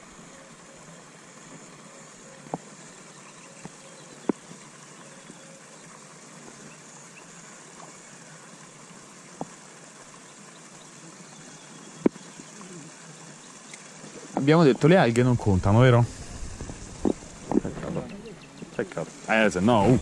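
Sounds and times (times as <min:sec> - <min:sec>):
trickle of running water: 0:00.0 - 0:20.0.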